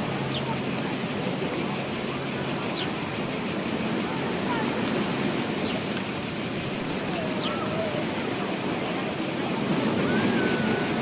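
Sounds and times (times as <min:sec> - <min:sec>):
high fast-pulsing hiss: 0:00.0 - 0:11.0
ocean surf: 0:00.0 - 0:11.0.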